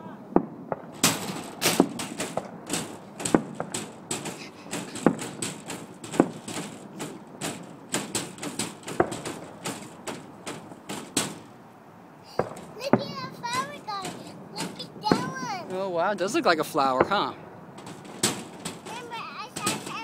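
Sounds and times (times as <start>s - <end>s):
fireworks bangs: 0.0s - 20.0s
fireworks crackling pops: 0.3s - 20.0s.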